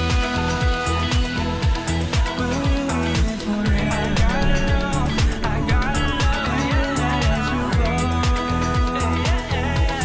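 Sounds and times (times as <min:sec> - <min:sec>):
pop music with driving beat: 0:00.0 - 0:10.0.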